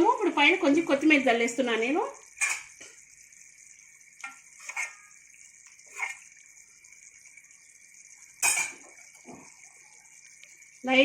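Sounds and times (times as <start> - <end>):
gravy simmering in a pot: 0.0 - 11.0.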